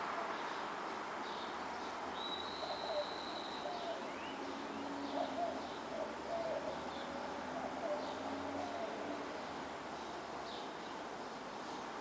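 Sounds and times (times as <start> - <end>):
distant traffic rush: 0.0 - 12.0
birds calling: 1.3 - 11.9.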